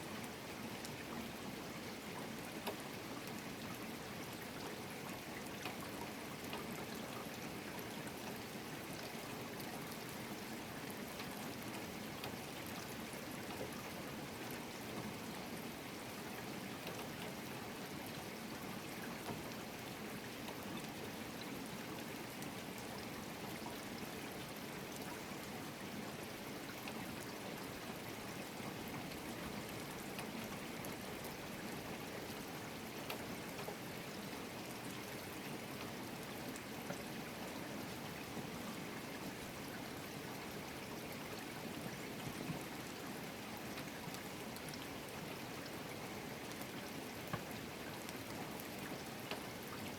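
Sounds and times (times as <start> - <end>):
rain falling steadily: 0.0 - 49.9.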